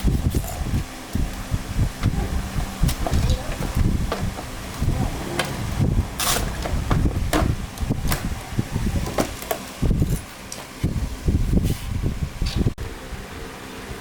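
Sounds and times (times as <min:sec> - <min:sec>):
constant low rumble: 0:00.0 - 0:14.0.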